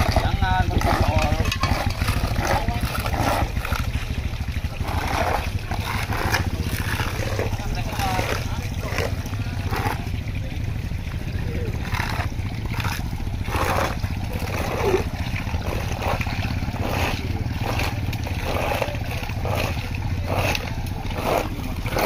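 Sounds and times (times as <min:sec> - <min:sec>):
heavy vehicle engine idling: 0:00.0 - 0:22.0
oil splashing onto road: 0:00.0 - 0:22.0
voices talking: 0:00.0 - 0:22.0.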